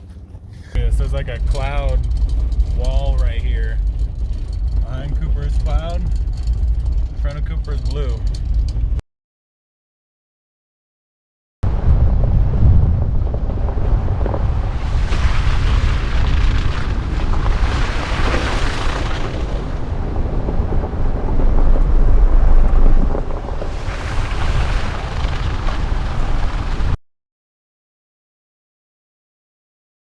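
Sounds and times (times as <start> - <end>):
wind buffeting microphone: 0.0 - 9.0, 11.7 - 27.0.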